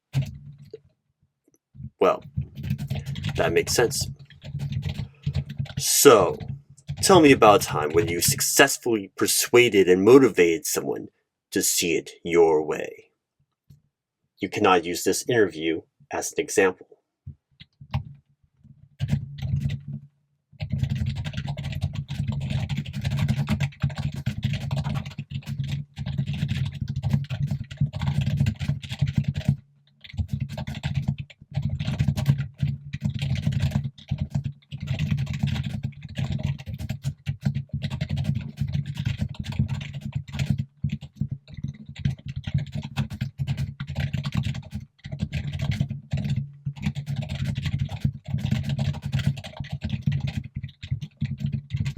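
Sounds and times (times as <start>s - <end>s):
fast loud keyboard typing: 0.1s - 0.7s, 2.0s - 10.9s, 17.6s - 18.2s, 18.8s - 20.0s, 20.6s - 51.9s.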